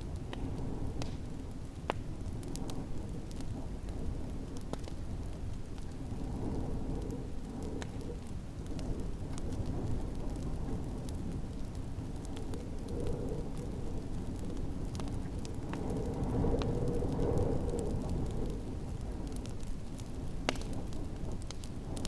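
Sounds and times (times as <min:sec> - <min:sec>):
snowstorm wind rumbling: 0:00.0 - 0:22.0
wood fire crackling: 0:00.0 - 0:22.0.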